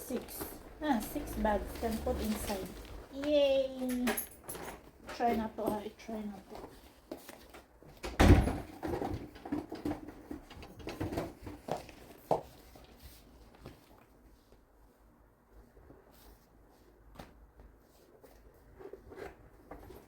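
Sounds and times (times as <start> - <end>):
knocks and rustles of handling: 0.0 - 20.0.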